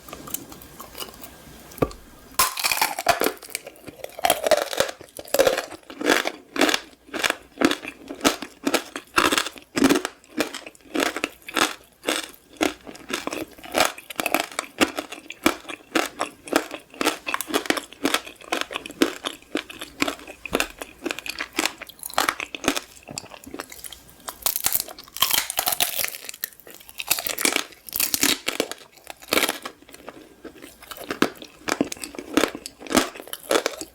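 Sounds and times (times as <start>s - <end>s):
crunchy candy being chewed: 0.0s - 33.9s.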